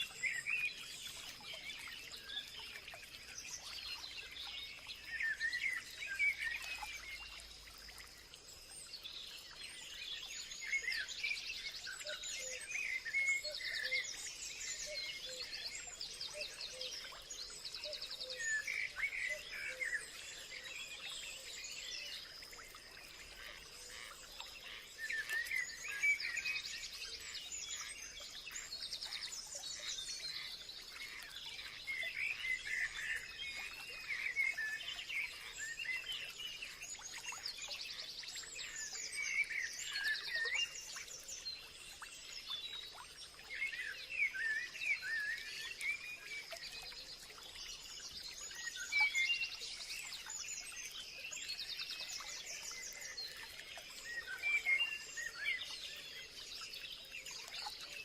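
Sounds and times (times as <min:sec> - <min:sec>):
songbirds chirping and warbling: 0:00.0 - 0:58.0.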